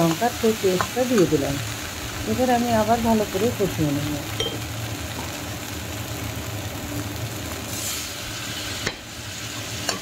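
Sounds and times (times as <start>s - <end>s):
spice paste sizzling in oil: 0.0s - 10.0s.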